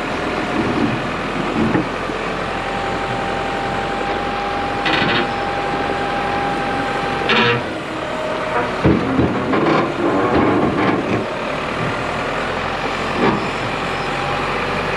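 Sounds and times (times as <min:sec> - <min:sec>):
diesel truck engine running: 0:00.0 - 0:14.9
engine whine: 0:00.0 - 0:14.9.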